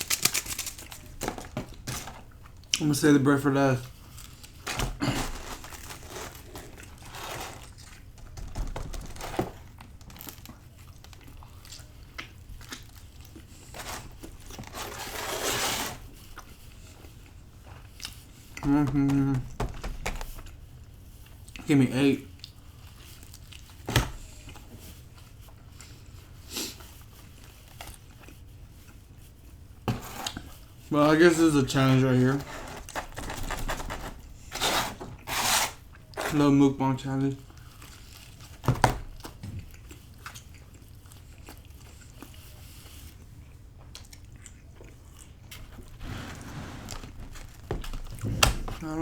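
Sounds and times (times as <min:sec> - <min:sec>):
chewing pizza: 0:03.8 - 0:15.0, 0:16.0 - 0:34.5, 0:37.2 - 0:46.0, 0:47.0 - 0:49.0.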